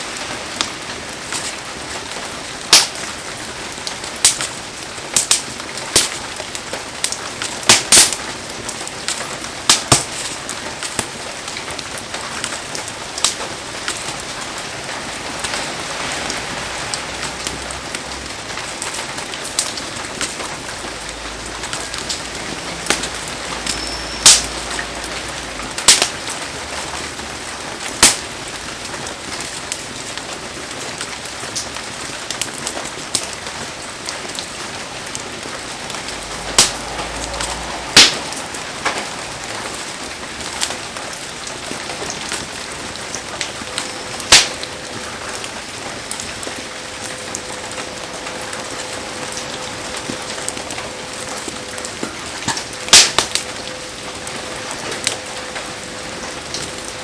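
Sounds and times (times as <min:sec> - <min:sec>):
heavy rain falling: 0:00.0 - 0:57.0
bonfire wood popping and cracking: 0:00.1 - 0:57.0.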